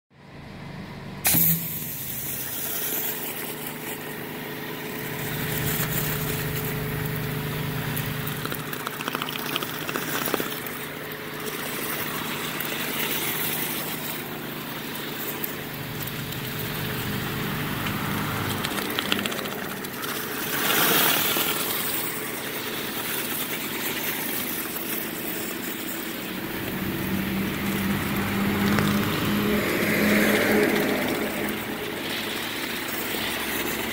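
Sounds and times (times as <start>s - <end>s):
pressure washer running: 0.5s - 33.9s
water hissing on concrete: 1.3s - 33.9s.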